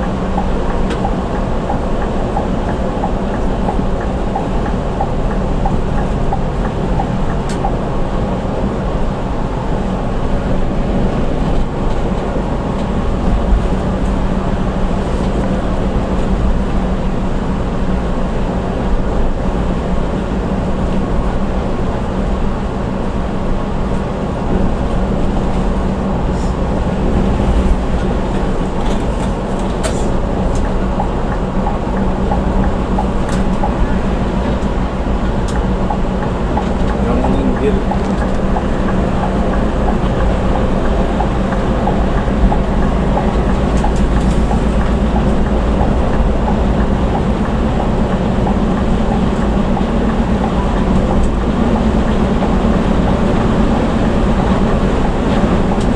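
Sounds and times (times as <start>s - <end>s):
bus engine drone: 0.0s - 55.9s
road noise: 0.0s - 55.9s.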